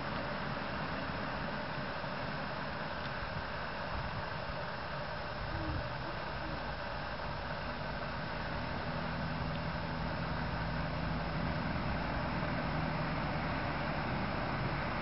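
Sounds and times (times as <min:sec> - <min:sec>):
constant rushing hiss: 0:00.0 - 0:15.0
low engine hum: 0:00.0 - 0:15.0.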